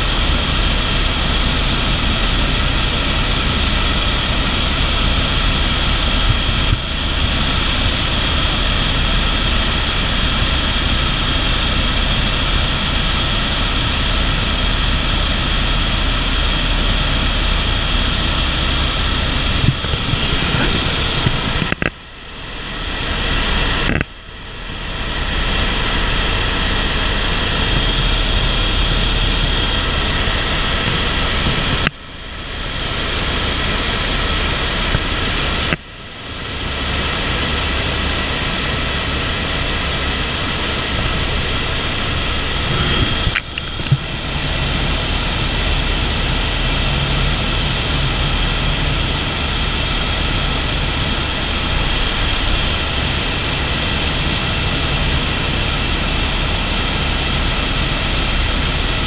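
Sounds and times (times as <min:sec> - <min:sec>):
helicopter rotor drone: 0:00.0 - 0:59.0
high turbine whine: 0:00.0 - 0:59.0.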